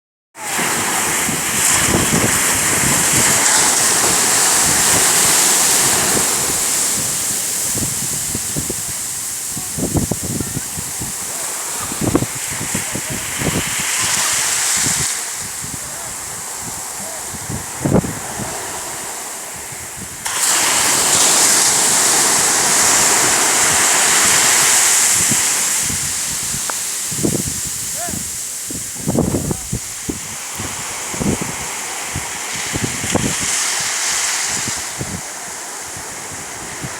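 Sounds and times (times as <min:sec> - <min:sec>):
sea surf hissing: 0:00.4 - 0:36.9
waves breaking on shore: 0:00.4 - 0:36.9
wind rumbling on microphone: 0:00.4 - 0:36.9.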